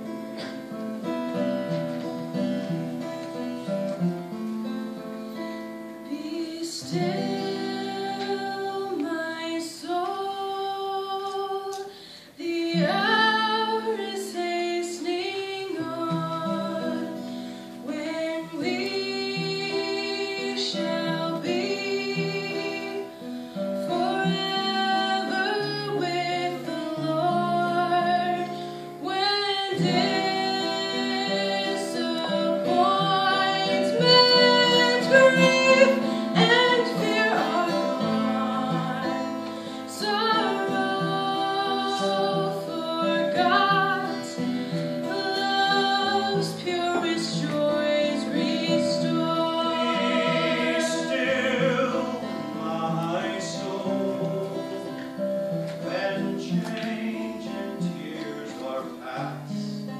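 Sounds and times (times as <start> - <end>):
acoustic guitar: 0.0 - 59.9
woman singing a hymn: 3.6 - 59.2.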